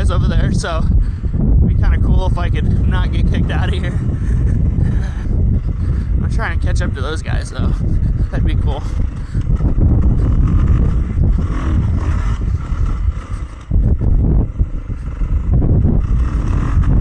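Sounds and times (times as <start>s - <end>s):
dirt bike engine under throttle: 0.0s - 17.0s
wind noise on microphone: 0.0s - 17.0s.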